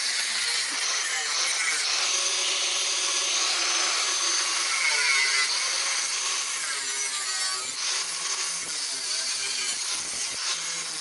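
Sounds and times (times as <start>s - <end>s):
power tool grinding metal: 0.0s - 11.0s.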